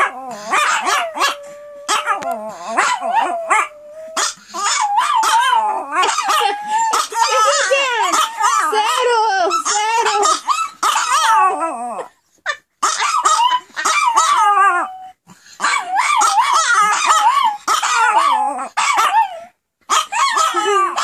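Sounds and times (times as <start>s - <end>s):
dogs howling and yipping: 0.0s - 21.0s.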